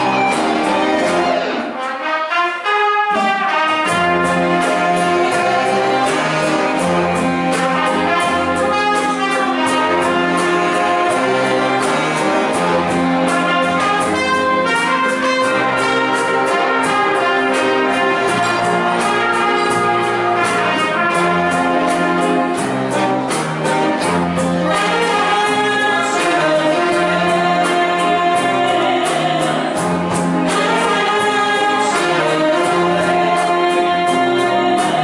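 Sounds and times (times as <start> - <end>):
low instruments: 0.0 - 35.0
saxophones and brass holding chords: 0.0 - 35.0
steady drum beat: 3.1 - 35.0.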